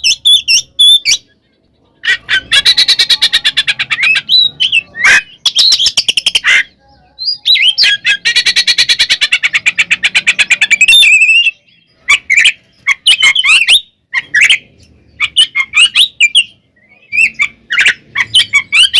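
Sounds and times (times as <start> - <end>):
magpie-robin singing: 0.0 - 18.9.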